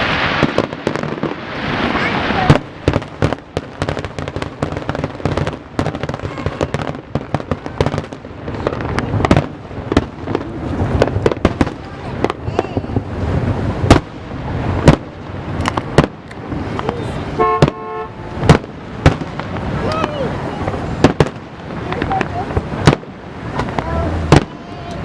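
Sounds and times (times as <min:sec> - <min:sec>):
fireworks bangs and crackling: 0:00.0 - 0:25.0
loud fireworks booms: 0:00.0 - 0:25.0.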